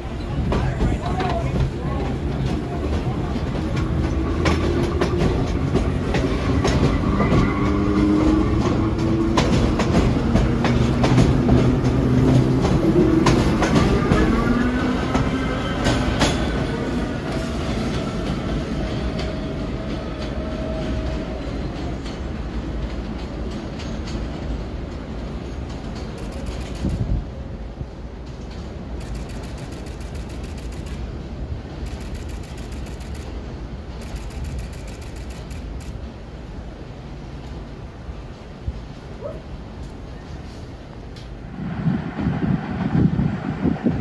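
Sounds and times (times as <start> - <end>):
subway wheels click-clacking: 0.0 - 44.0.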